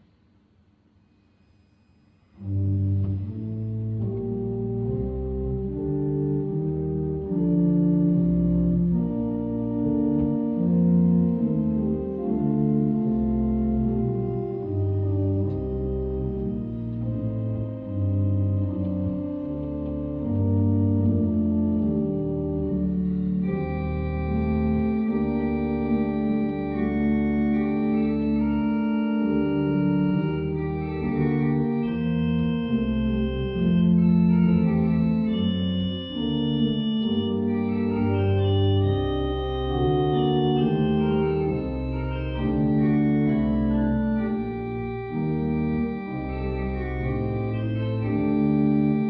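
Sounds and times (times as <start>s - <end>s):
pipe organ playing chords: 1.6s - 49.0s.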